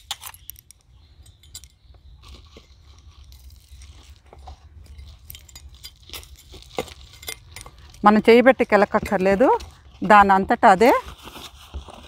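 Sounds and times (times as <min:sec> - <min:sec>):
dry leaves rustling: 0:02.1 - 0:12.0.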